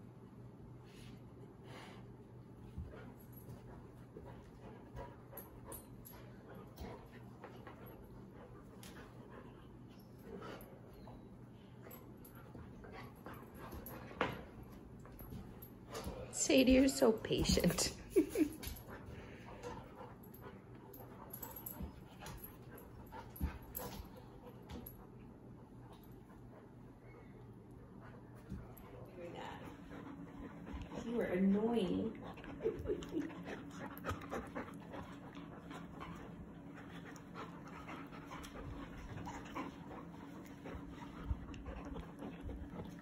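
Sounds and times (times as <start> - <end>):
dogs mouthing and scuffling: 2.4 - 43.0
dogs panting: 2.6 - 43.0.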